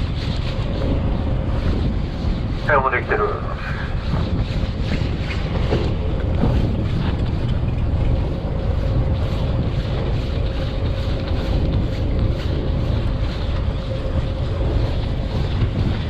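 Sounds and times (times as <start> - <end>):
boat engine rumbling: 0.0 - 16.0
wind buffeting microphone: 0.0 - 16.0.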